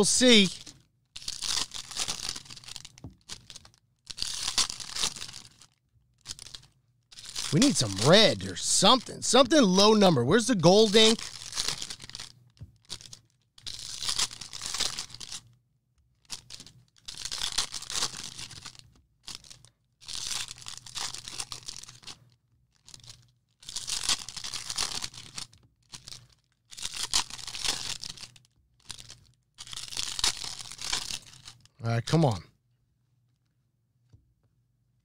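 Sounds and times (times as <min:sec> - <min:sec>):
wrappers tearing and crinkling: 0:00.0 - 0:15.4, 0:16.2 - 0:31.7.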